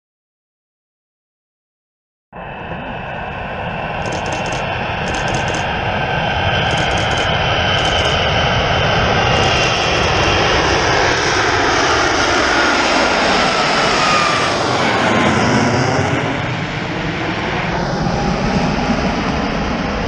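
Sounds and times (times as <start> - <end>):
jet roar with falling whine: 2.4 - 20.0.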